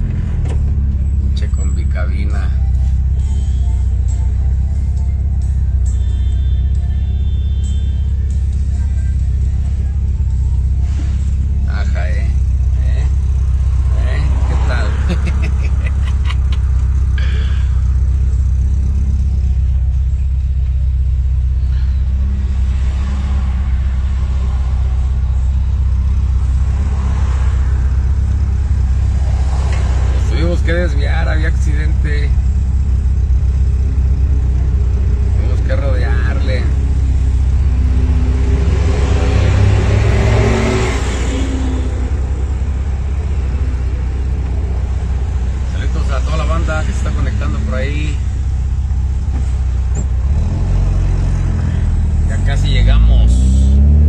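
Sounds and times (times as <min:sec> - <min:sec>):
van driving rumble: 0:00.0 - 0:54.0.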